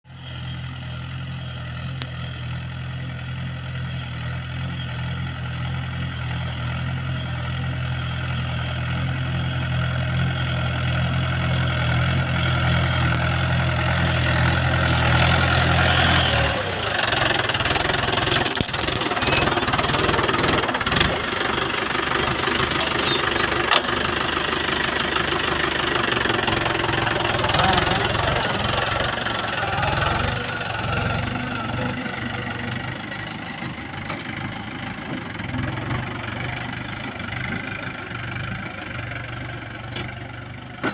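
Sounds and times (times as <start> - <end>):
tractor engine running: 0.1 - 40.9.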